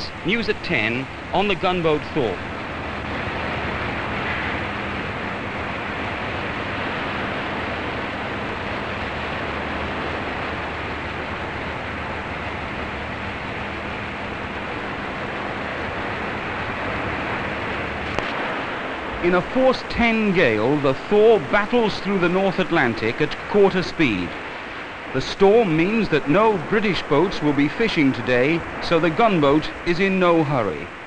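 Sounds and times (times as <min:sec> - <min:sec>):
wind rushing: 0:00.0 - 0:28.9
churning sea: 0:00.0 - 0:31.0.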